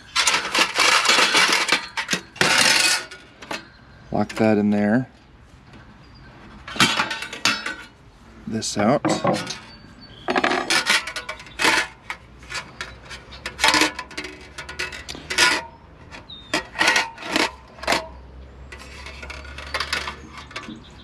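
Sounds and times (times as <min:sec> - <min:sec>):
metal parts clanking: 0:00.0 - 0:04.8, 0:06.5 - 0:08.0, 0:08.6 - 0:21.0
metal scraping: 0:00.0 - 0:05.0, 0:05.6 - 0:21.0.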